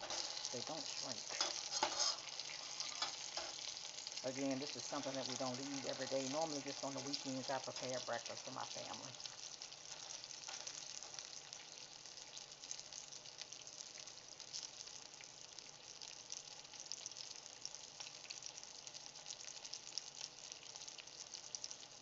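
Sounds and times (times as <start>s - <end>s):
sausages sizzling in a skillet: 0.0s - 22.0s.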